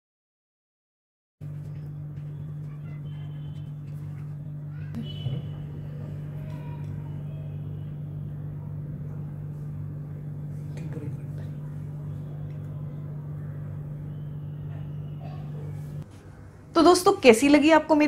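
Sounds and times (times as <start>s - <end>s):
low mechanical hum: 1.4s - 18.0s.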